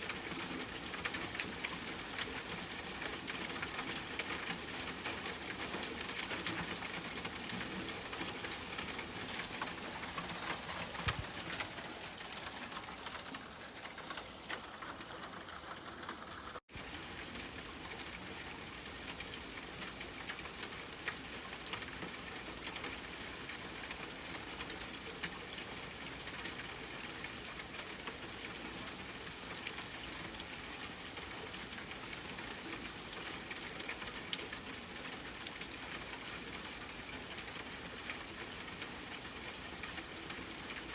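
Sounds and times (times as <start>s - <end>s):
rain drops ticking and pattering: 0.0s - 40.9s.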